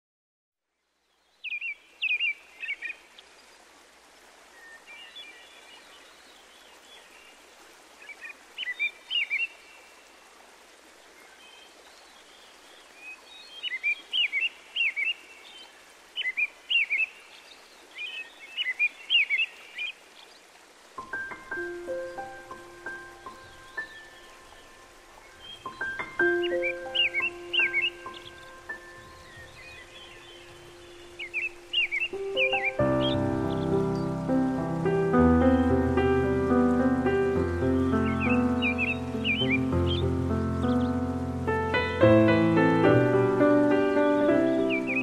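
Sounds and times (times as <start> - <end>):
faint steady hiss: 0.6 - 45.0.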